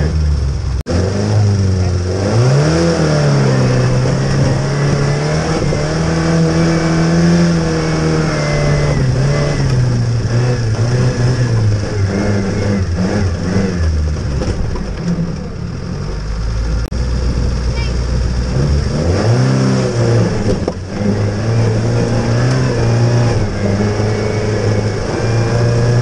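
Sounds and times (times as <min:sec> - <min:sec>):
old car engine revving: 0:00.0 - 0:26.0.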